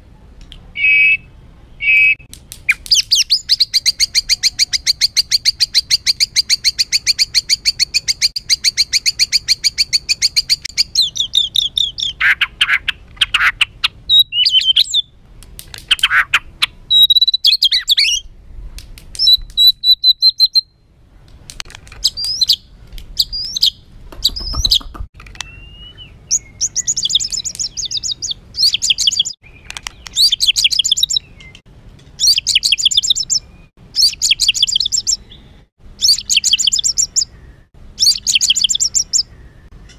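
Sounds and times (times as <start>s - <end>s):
songbird trilling and whistling: 0.8s - 15.1s, 15.8s - 18.3s, 19.2s - 20.8s, 22.0s - 31.6s, 32.2s - 39.9s.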